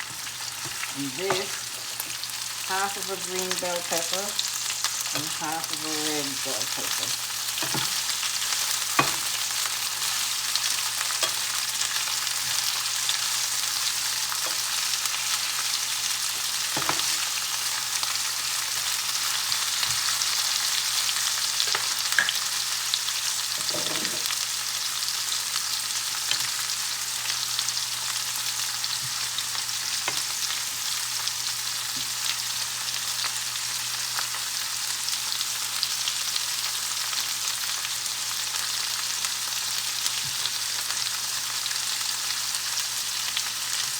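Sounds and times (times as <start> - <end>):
vegetables sizzling in a pan: 0.0 - 43.9.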